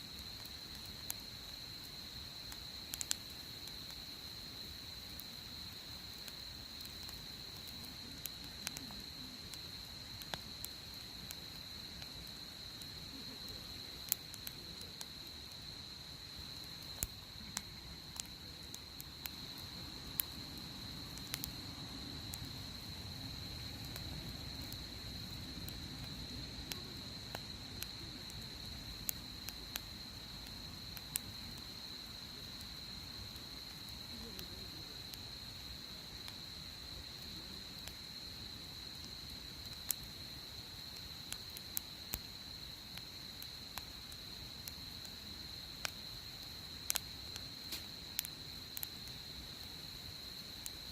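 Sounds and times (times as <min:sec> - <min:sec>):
insect trill: 0:00.0 - 0:50.9
soft rushing of fire: 0:00.0 - 0:50.9
wood fire crackling and popping: 0:00.0 - 0:50.9.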